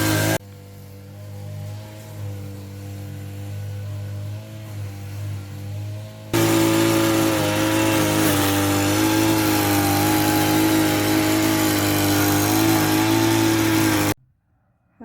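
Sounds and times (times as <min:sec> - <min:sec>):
lawn mower engine running: 0:00.0 - 0:14.2.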